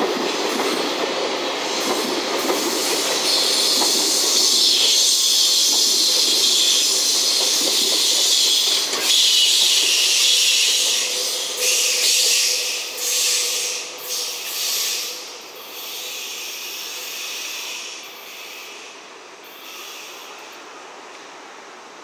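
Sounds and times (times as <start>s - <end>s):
train rumbling: 0.0s - 22.0s
train wheels hissing on track: 0.0s - 22.0s.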